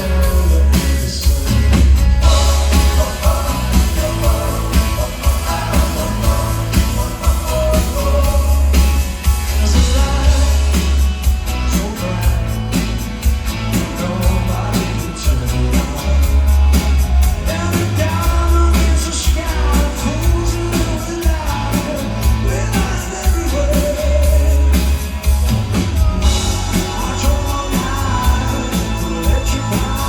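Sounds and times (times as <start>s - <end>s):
rock song with singing: 0.0s - 30.0s.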